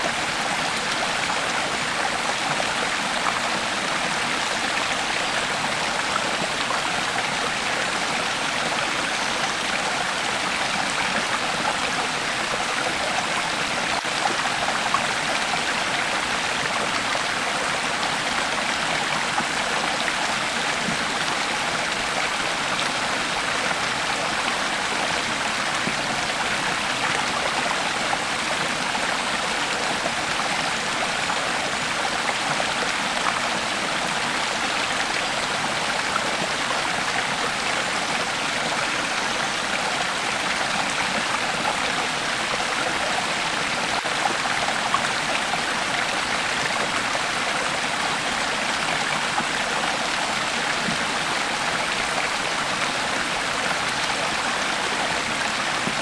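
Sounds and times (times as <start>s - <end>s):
creek water flowing over rocks: 0.0s - 56.0s.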